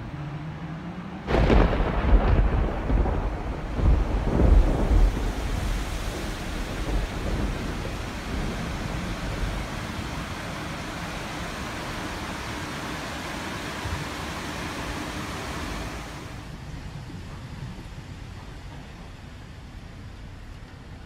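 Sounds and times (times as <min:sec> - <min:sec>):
steady hiss of rain: 0:00.0 - 0:21.0
thunder rumbling: 0:01.2 - 0:19.1.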